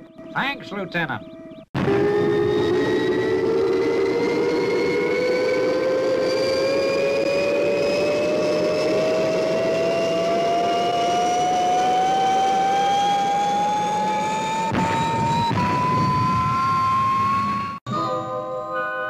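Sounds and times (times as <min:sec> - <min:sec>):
rushing spaceship engine: 0:01.8 - 0:17.8
whine rising in pitch: 0:01.8 - 0:17.8.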